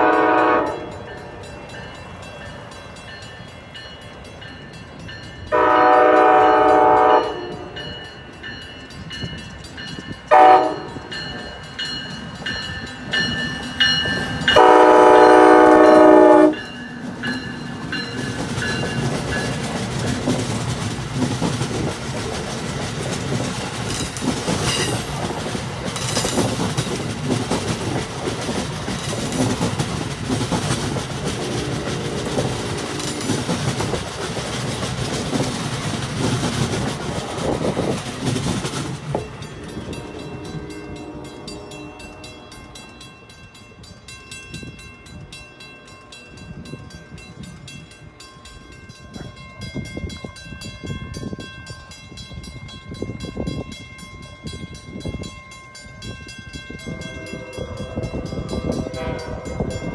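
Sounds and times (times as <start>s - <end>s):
train wheels rushing on rail: 0.0s - 59.9s.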